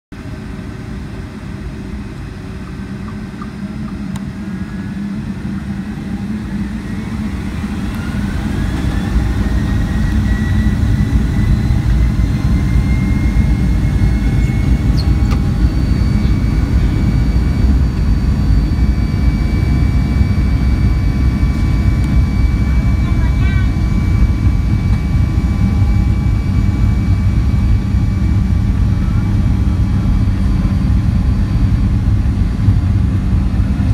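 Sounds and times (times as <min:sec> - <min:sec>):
engine whine rising in pitch: 0:00.2 - 0:33.9
jet engines spooling up: 0:00.2 - 0:33.9
low engine rumble: 0:00.2 - 0:33.9.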